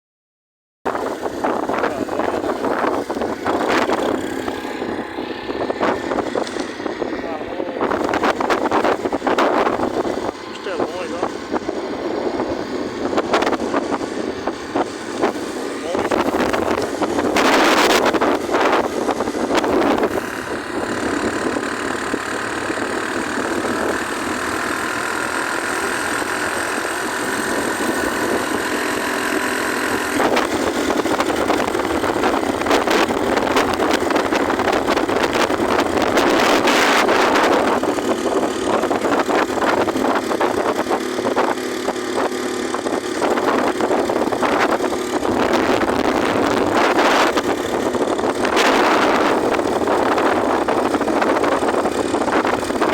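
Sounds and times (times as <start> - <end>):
motorcycle engine running: 0.9 - 52.9
wind rushing over microphone: 0.9 - 52.9.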